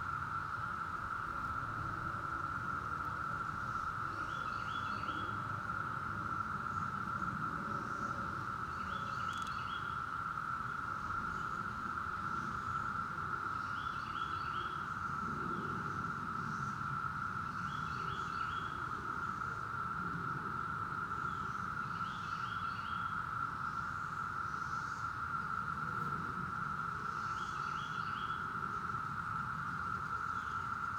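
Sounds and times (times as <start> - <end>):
cicada chorus drone: 0.0 - 30.9.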